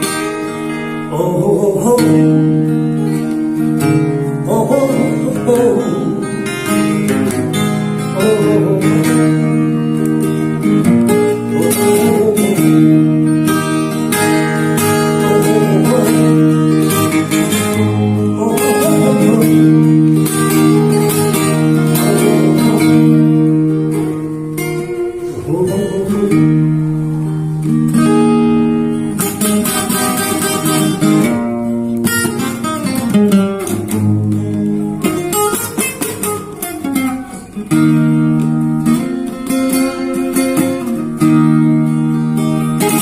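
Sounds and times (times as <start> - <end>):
acoustic guitar playing: 0.0 - 43.0.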